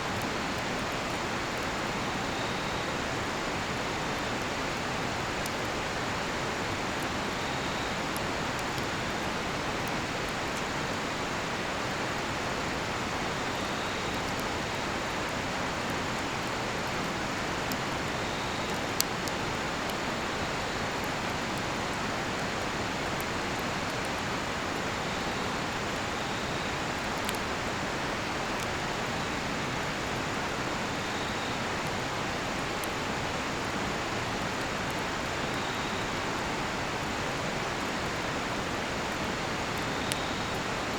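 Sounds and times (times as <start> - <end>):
campfire crackling and popping: 0.1 - 40.9.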